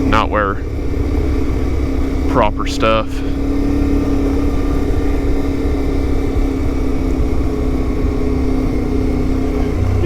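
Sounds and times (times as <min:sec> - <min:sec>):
low rumble of wind: 0:00.0 - 0:10.0
motorcycle engine running: 0:00.0 - 0:10.0.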